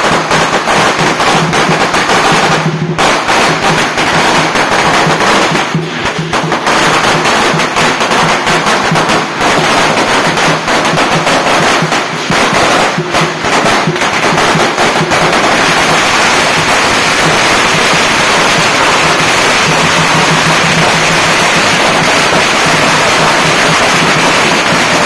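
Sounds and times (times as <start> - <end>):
firecrackers crackling: 0.0 - 25.0.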